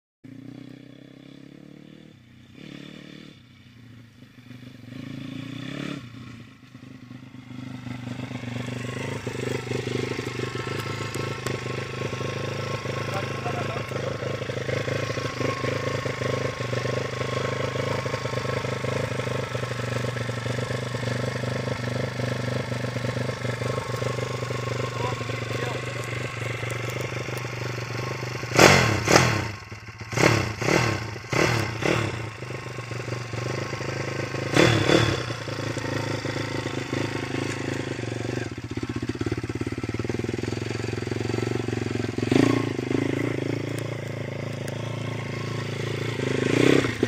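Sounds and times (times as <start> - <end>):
motorbike engine running: 0.3 - 47.0.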